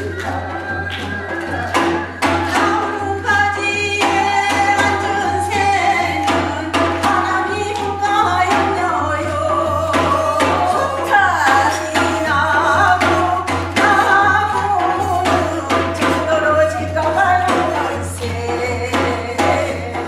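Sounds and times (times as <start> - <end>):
drum strokes: 0.0 - 20.0
folk singing voices: 0.0 - 20.0.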